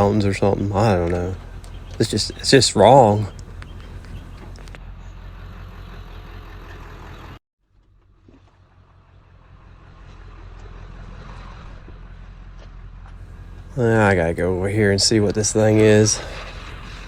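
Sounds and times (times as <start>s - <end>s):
road noise: 0.0s - 17.0s
vehicle engine rumbling: 0.0s - 17.0s.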